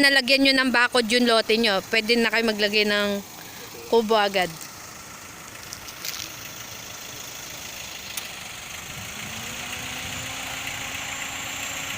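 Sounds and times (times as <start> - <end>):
engine hum: 0.0 - 11.9.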